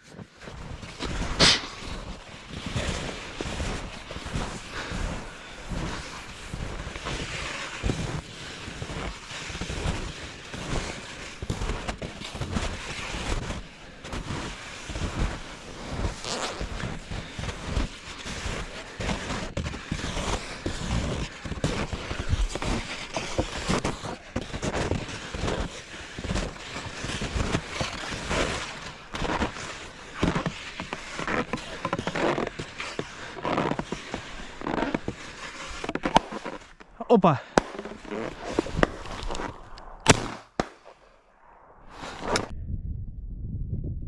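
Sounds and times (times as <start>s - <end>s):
footsteps crunching through snow: 0.0s - 41.0s
clothing and branches brushing: 0.4s - 37.0s.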